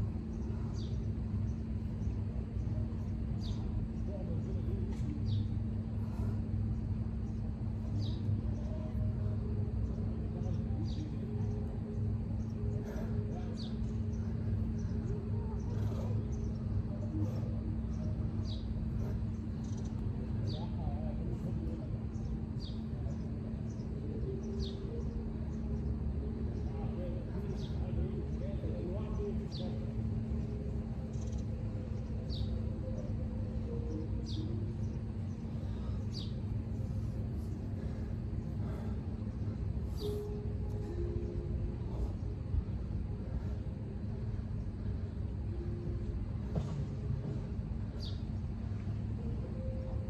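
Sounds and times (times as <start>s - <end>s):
constant hum: 0.0s - 50.0s
steady low rumble: 0.0s - 50.0s.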